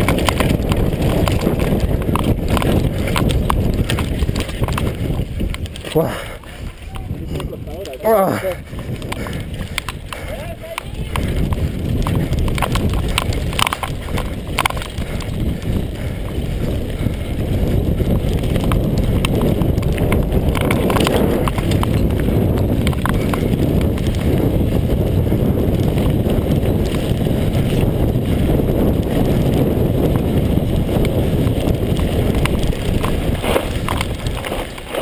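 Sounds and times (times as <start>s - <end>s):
bike clicks and rattles: 0.0s - 35.0s
tyres rumbling over gravel: 0.0s - 35.0s
wind buffeting microphone: 0.0s - 35.0s.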